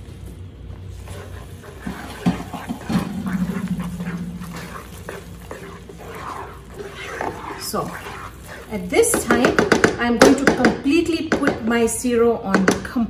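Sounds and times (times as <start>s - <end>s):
spatula stirring thick food: 0.7s - 11.5s.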